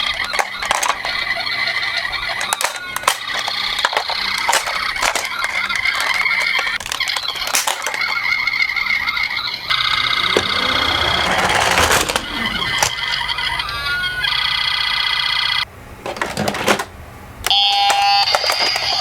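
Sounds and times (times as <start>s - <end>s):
toy cars clicking and clattering: 0.0s - 9.5s, 10.1s - 13.1s, 16.0s - 19.0s
toy electronic sirens: 0.0s - 15.7s, 17.5s - 19.0s.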